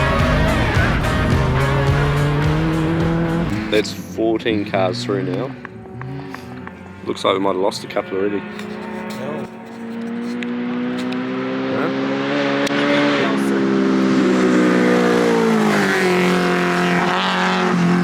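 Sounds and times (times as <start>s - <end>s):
race car engine passing by: 0.0s - 18.0s.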